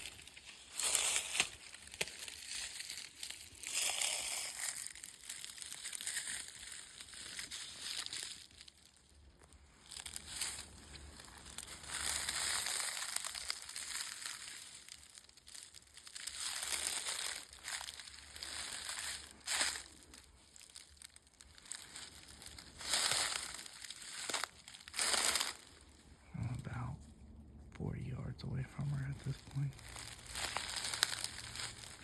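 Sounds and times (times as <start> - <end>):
footsteps crunching through dry leaves: 0.0 - 26.1, 29.7 - 32.0.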